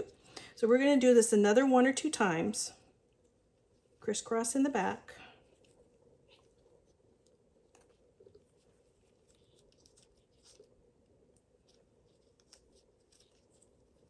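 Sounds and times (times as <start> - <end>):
gloved hands rustling thread: 2.7 - 14.0.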